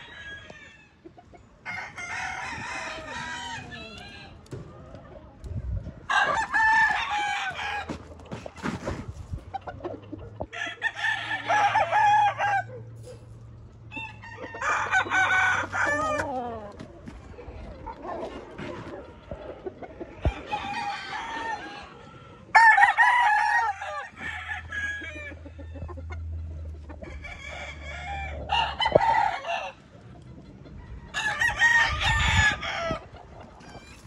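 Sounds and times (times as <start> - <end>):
roosters crowing: 0.0 - 5.0, 6.0 - 34.0.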